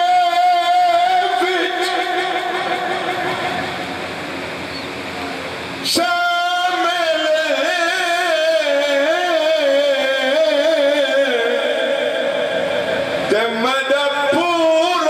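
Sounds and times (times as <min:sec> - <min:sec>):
man singing a lament: 0:00.0 - 0:03.9, 0:05.8 - 0:15.0.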